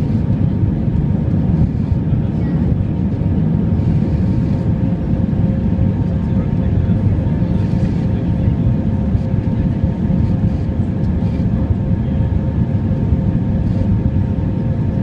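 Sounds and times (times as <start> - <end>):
faint engine tones: 0.0 - 15.0
jet engine and airflow rumble: 0.0 - 15.0.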